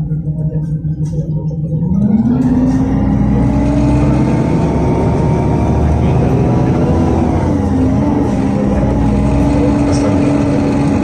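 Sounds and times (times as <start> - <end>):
bus engine drone: 0.0 - 11.0
thin engine whine: 0.0 - 11.0.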